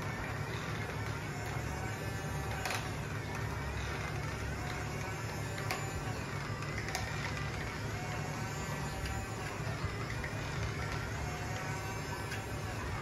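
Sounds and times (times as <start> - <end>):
toy electric motors whirring: 0.0 - 13.0.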